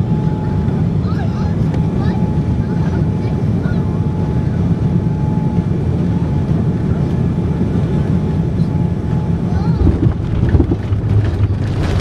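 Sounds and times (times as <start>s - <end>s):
airplane cabin engine rumble: 0.0s - 12.0s
faint constant whine: 0.0s - 12.0s.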